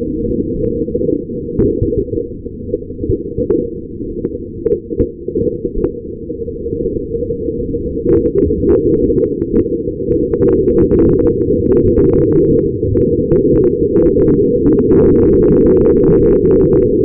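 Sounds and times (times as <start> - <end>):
deep continuous rumble: 0.0 - 17.0.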